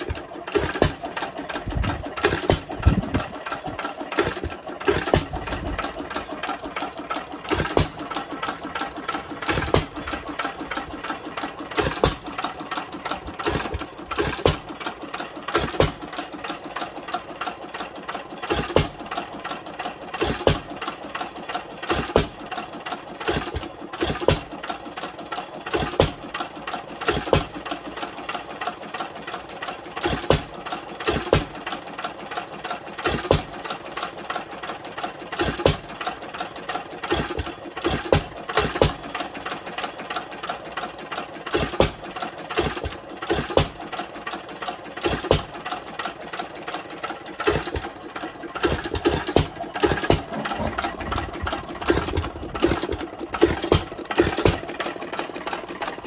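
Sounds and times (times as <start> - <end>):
fast mechanical clicking: 0.0 - 56.0.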